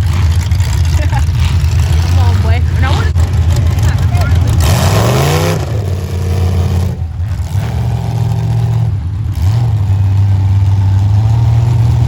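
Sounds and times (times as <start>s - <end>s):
car engines revving loudly: 0.0s - 12.0s.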